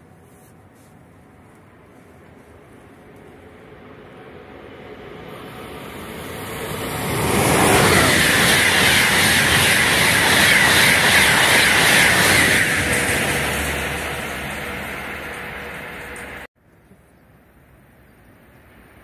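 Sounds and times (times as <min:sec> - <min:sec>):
high-speed train passing: 0:01.0 - 0:16.5.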